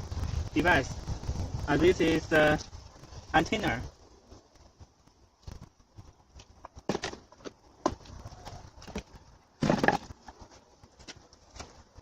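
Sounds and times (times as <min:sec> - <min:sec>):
rustle or clatter: 0:00.0 - 0:12.0.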